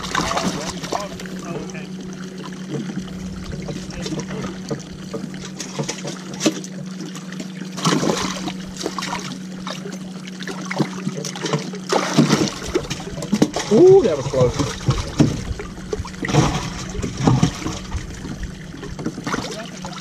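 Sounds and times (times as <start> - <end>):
steady low hum: 0.0 - 20.0
water splash: 0.0 - 20.0
water trickling and sloshing: 0.0 - 20.0.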